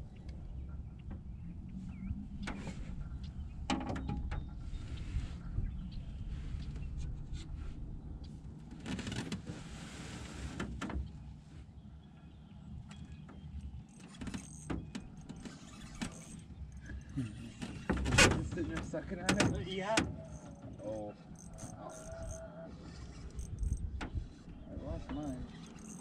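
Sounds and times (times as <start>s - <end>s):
low motor hum: 0.0s - 8.9s, 10.3s - 26.0s.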